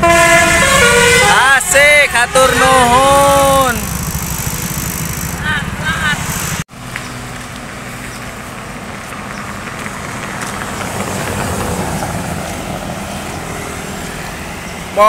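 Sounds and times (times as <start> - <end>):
bus engine driving by: 0.0 - 15.0.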